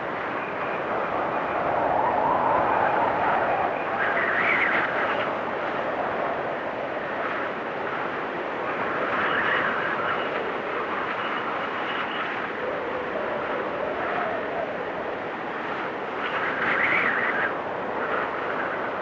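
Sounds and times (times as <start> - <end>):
blizzard wind howling: 0.0 - 19.0.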